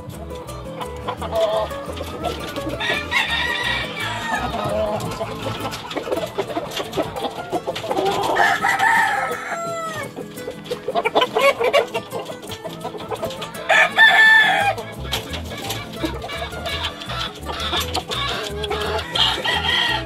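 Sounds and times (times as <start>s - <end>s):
chickens clucking: 0.0s - 20.0s
roosters crowing: 0.0s - 20.0s.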